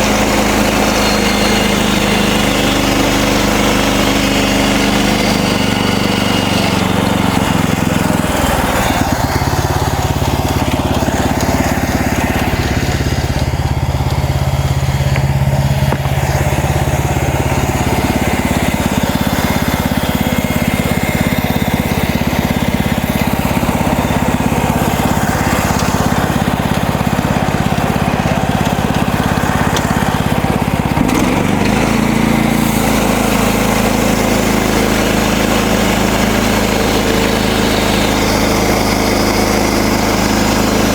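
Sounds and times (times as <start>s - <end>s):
sawmill gasoline engine running: 0.0s - 40.9s.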